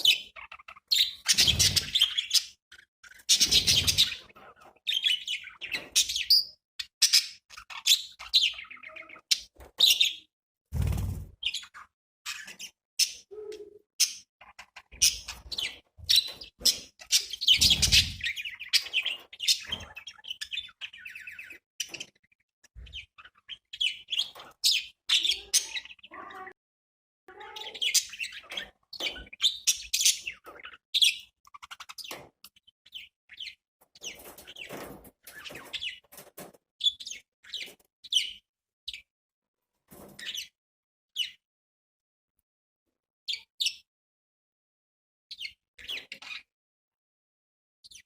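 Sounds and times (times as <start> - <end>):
budgerigars chirping and warbling: 0.0 - 26.6, 27.3 - 39.1, 39.9 - 41.4, 43.3 - 43.9, 45.3 - 46.5.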